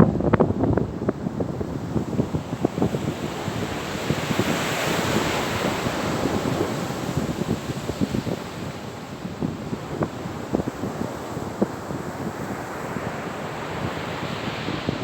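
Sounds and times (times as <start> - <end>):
wind buffeting microphone: 0.0 - 15.0
sea waves breaking on shore: 2.2 - 15.0.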